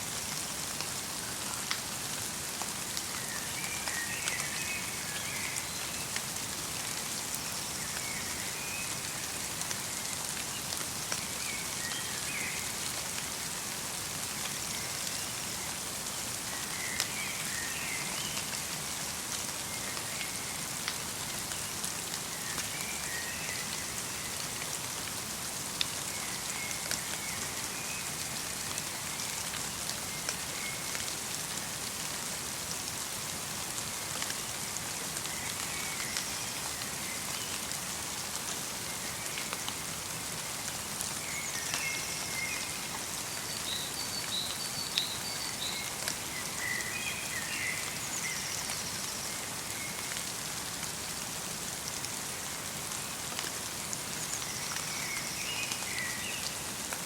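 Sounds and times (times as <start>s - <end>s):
light rain hissing: 0.0s - 57.0s.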